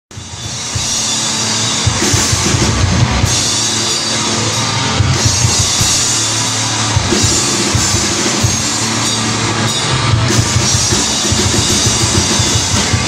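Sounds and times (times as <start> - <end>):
distorted guitar and bass: 0.1 - 13.0
drums pounding: 0.1 - 13.0.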